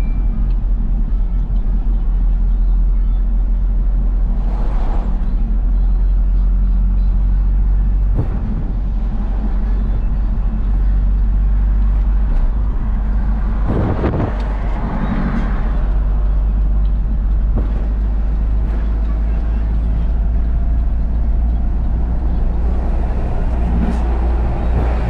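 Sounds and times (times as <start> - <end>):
road noise: 0.0 - 25.0
truck diesel engine running: 0.0 - 25.0.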